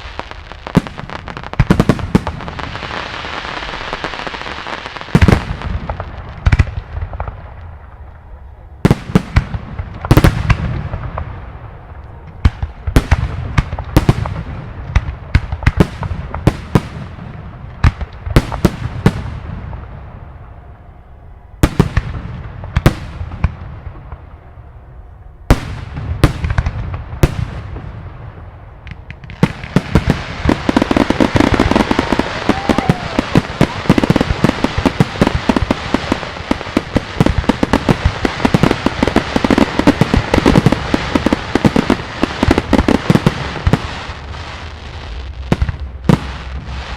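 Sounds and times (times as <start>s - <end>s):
firework barrage of bangs and pops: 0.0s - 8.1s, 8.8s - 20.2s, 21.6s - 24.5s, 25.5s - 46.9s.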